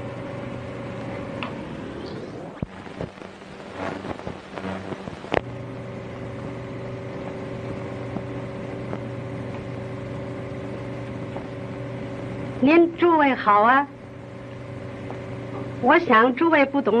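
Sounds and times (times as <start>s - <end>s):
soundtrack hum and hiss: 0.0s - 17.0s.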